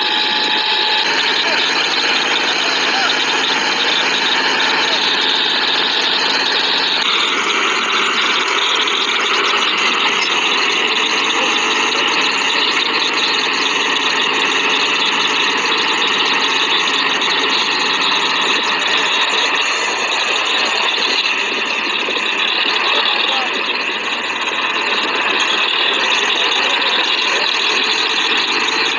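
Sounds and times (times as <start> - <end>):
tractor diesel engines under load: 0.0 - 28.9.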